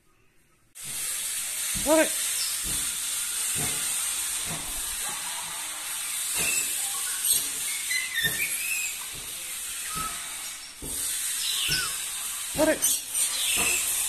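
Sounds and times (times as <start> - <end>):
steady high hiss: 0.0 - 14.0
parrots chirping and squawking: 1.0 - 14.0.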